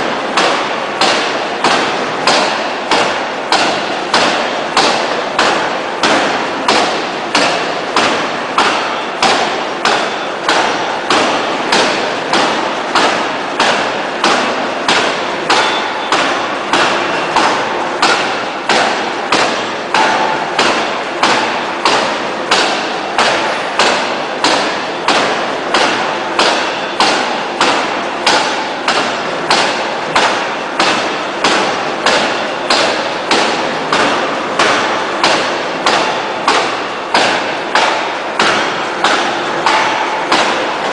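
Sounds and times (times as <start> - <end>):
forging hammer striking steel: 0.0 - 40.9.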